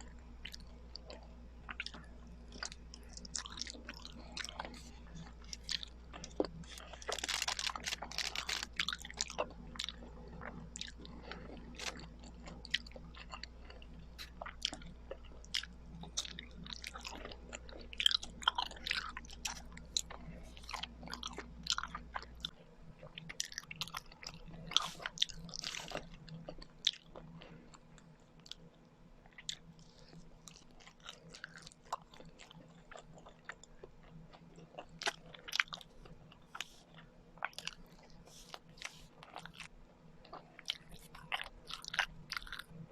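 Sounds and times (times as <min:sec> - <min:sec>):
biting food: 0:00.0 - 0:27.6, 0:29.4 - 0:42.8.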